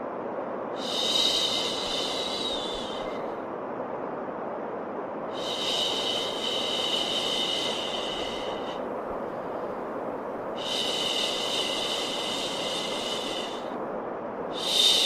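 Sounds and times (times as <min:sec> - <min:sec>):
steady white noise: 0:00.0 - 0:15.0.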